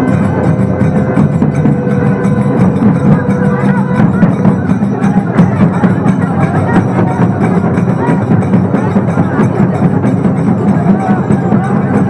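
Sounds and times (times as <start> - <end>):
crowd voices: 0.0 - 12.0
deep barrel drums: 0.0 - 12.0
sharp drum strokes: 0.0 - 12.0.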